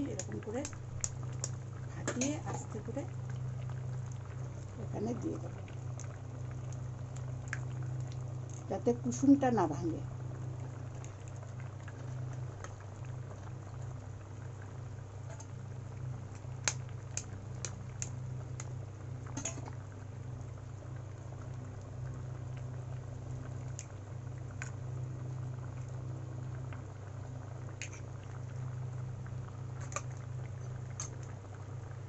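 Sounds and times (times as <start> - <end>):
curry bubbling in a wok: 0.0 - 32.0
low hum: 0.0 - 32.0.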